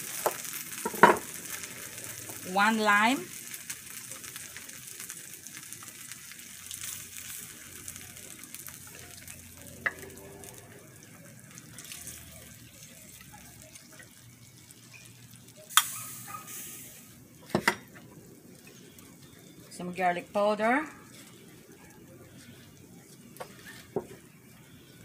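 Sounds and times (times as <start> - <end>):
sauce sizzling in a frying pan: 0.0 - 25.0.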